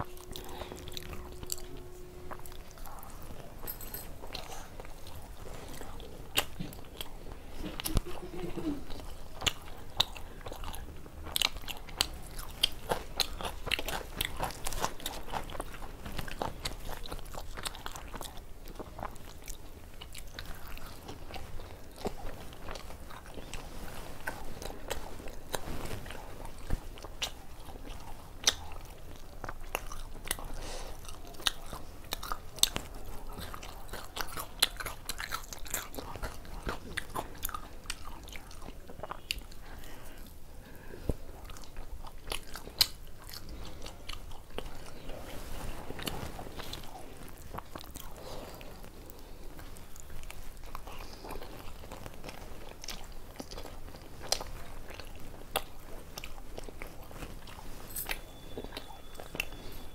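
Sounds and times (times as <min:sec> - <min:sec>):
chewing and lip-smacking: 0:00.0 - 0:59.9.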